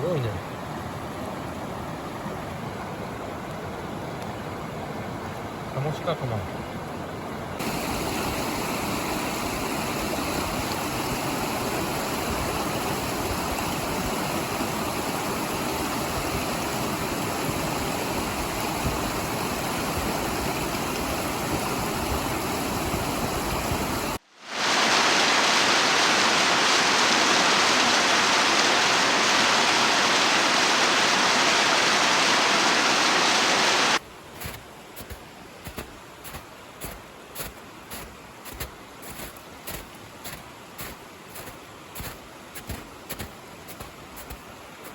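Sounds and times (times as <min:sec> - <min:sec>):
stream rushing over rocks: 0:07.6 - 0:44.9.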